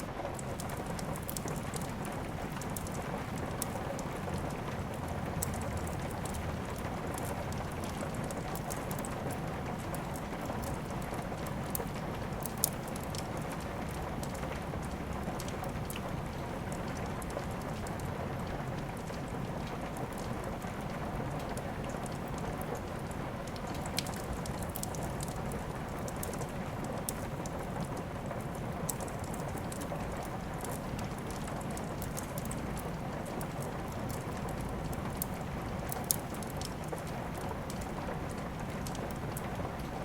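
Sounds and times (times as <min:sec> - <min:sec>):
steady rain: 0:00.0 - 0:40.0
wood fire crackling and popping: 0:00.0 - 0:40.0.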